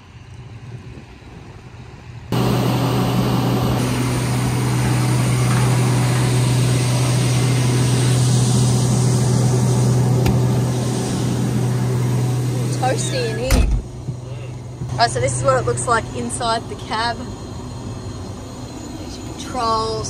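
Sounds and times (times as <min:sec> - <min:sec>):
combine harvester engine drone: 0:02.3 - 0:20.0.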